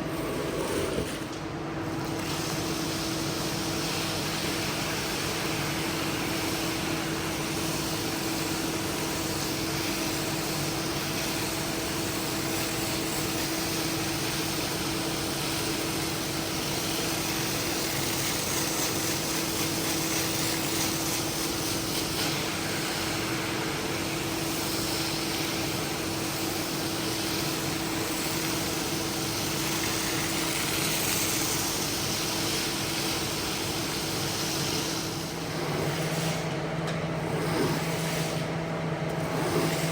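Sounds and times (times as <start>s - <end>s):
carpet cleaning machine running: 0.0s - 39.9s.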